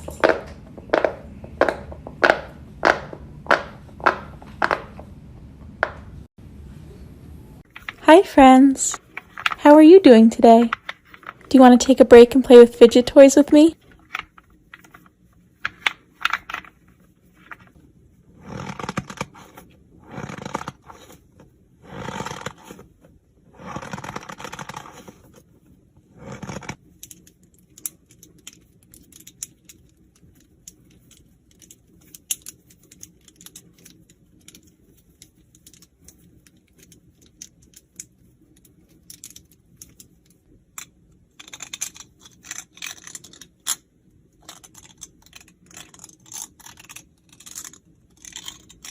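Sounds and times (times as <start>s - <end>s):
fidget toys rustling and squeezing: 7.6s - 48.9s.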